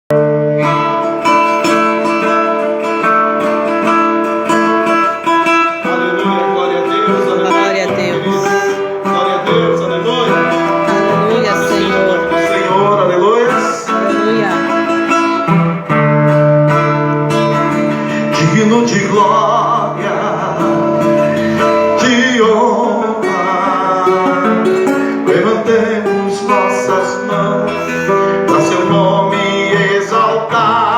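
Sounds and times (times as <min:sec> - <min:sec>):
acoustic guitar playing: 0:00.1 - 0:30.9.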